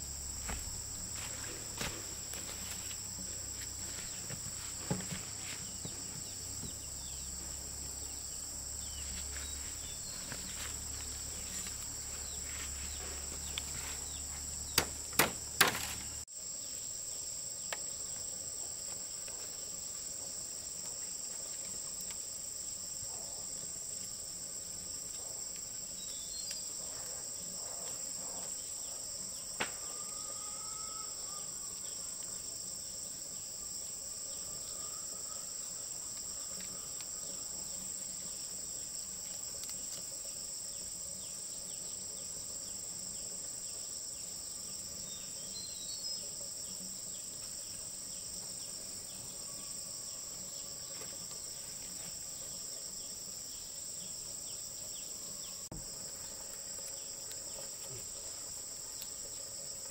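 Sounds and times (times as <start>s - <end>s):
insects chirping chorus: 0.0s - 59.9s.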